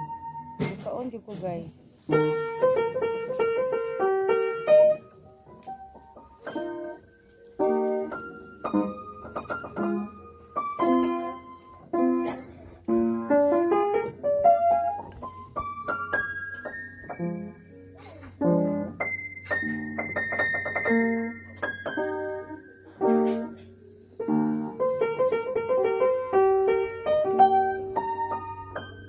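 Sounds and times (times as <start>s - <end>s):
piano melody: 0.0s - 29.0s.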